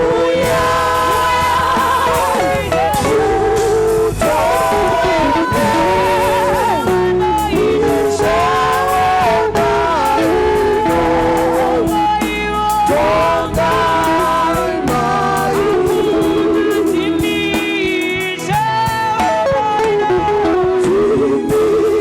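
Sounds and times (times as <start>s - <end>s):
band playing a steady beat: 0.0s - 22.0s
gospel singing with vibrato: 0.0s - 22.0s.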